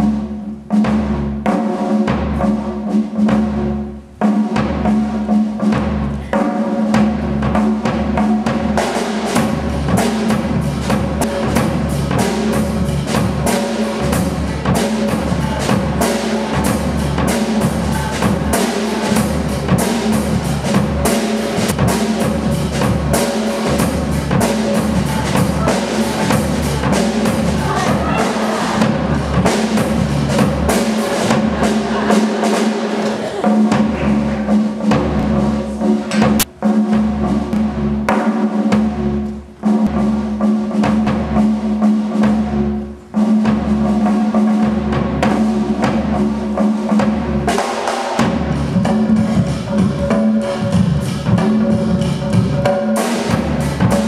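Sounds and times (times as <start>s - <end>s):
fast dense drumming: 0.0s - 54.0s.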